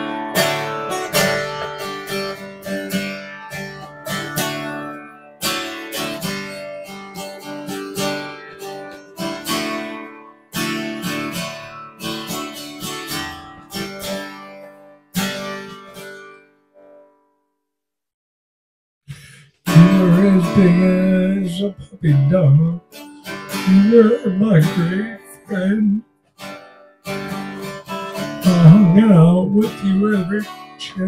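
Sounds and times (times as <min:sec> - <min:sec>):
acoustic guitar strumming: 0:00.0 - 0:17.2, 0:19.2 - 0:31.0.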